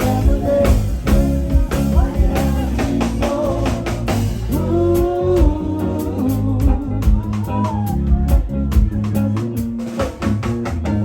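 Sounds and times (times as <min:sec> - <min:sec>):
drum kit beat: 0:00.0 - 0:11.0
rock band playing: 0:00.0 - 0:11.0.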